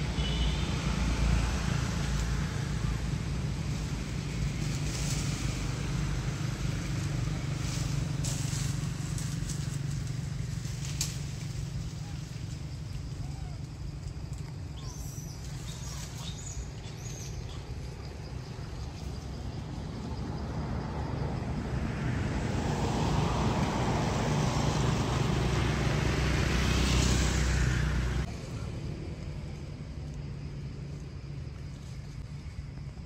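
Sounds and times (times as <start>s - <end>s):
motor vehicle passing: 0.0s - 29.8s.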